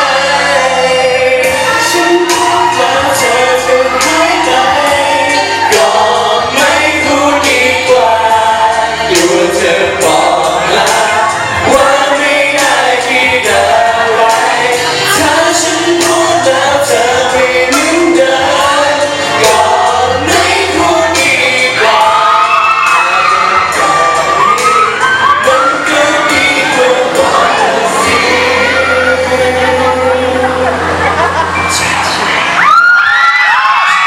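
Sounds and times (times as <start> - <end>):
person singing: 0.0 - 32.6
pop backing track: 0.0 - 34.0.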